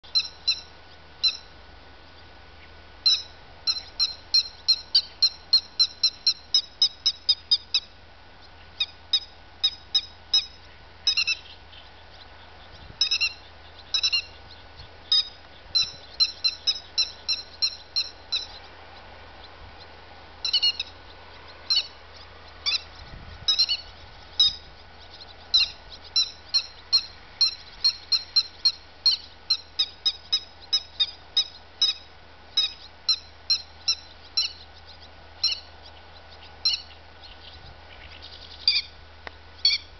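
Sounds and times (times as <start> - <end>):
lapwing calling: 0.0 - 39.9.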